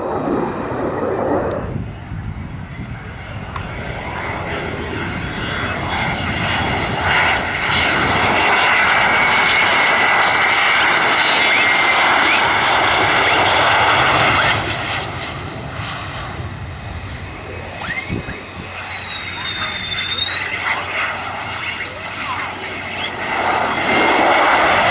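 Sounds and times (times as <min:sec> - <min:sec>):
jet engine roar and whine: 0:00.0 - 0:24.9.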